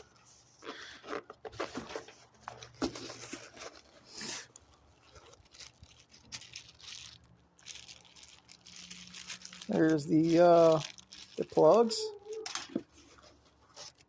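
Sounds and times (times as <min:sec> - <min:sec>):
plastic packaging crinkling: 0:00.8 - 0:14.0.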